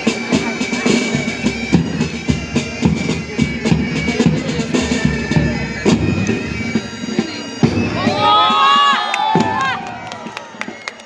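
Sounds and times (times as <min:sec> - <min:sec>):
marching band drums: 0:00.0 - 0:10.9.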